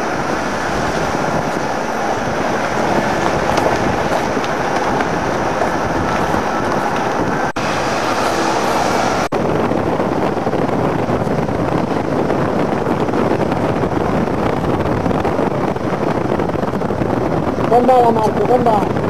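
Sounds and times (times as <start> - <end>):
car driving on dirt track: 0.0 - 19.0.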